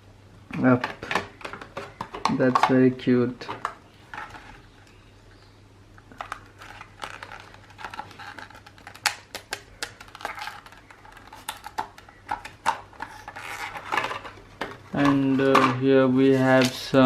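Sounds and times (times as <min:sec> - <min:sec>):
packaging clicks and taps: 0:00.5 - 0:04.5, 0:06.0 - 0:15.8
plastic and cardboard rustling: 0:00.5 - 0:04.9, 0:06.1 - 0:17.0.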